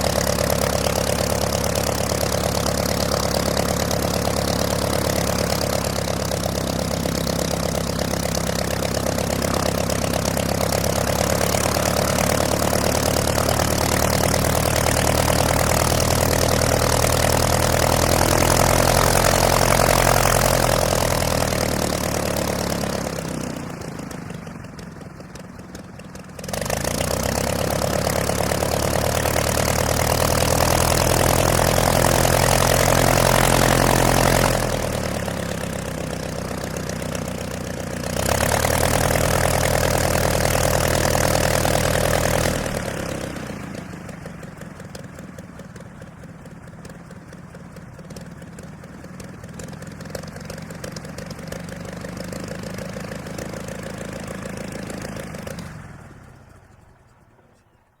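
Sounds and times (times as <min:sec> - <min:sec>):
piston plane engine idling: 0:00.0 - 0:58.0.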